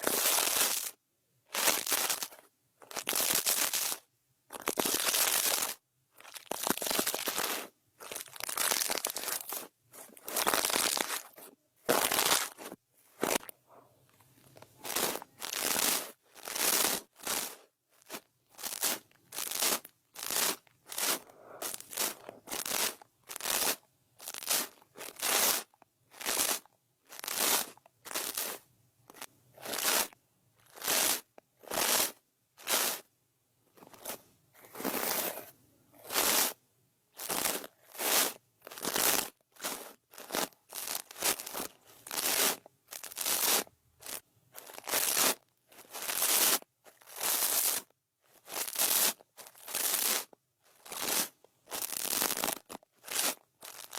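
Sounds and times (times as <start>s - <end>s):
brush scratching across microphone: 6.5s - 13.5s, 14.4s - 33.1s, 33.8s - 36.6s, 37.2s - 53.9s.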